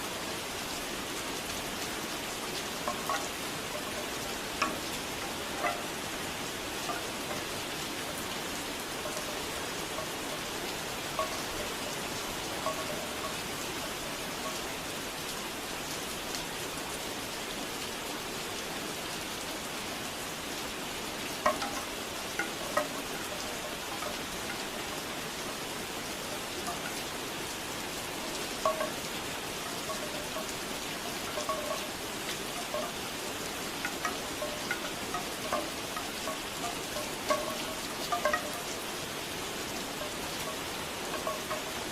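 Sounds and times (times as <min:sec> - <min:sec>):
steady rain falling: 0:00.0 - 0:41.9
bamboo wind chimes knocking: 0:01.6 - 0:14.8, 0:21.2 - 0:41.9.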